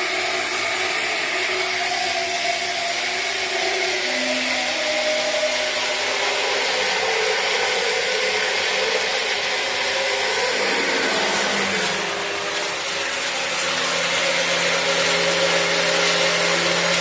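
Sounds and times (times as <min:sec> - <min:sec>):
motor pump whirring: 0:00.0 - 0:17.0.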